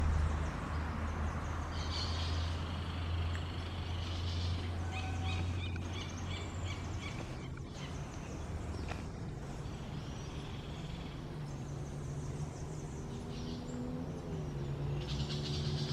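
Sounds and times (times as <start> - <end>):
wren calling: 0.7 - 15.9.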